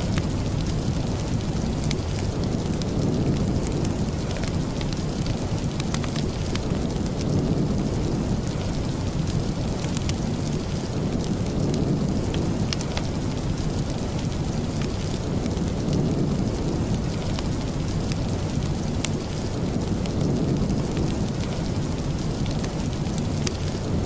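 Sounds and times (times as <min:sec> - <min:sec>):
steady rain: 0:00.0 - 0:24.0
wood fire crackling: 0:00.0 - 0:24.0.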